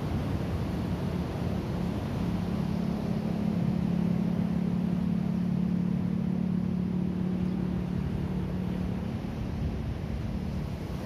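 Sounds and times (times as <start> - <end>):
low engine drone: 0.0 - 11.0
surf washing over rocks: 0.0 - 11.0.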